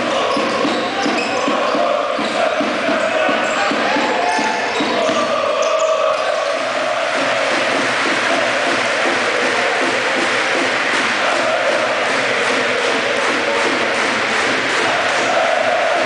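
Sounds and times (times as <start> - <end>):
crowd chanting: 0.0 - 16.0.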